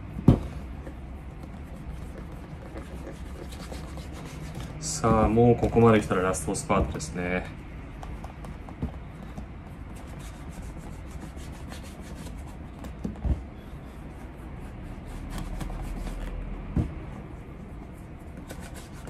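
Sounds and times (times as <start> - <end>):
scratchy rubbing on leather shoe: 0.7 - 6.3, 8.1 - 19.0.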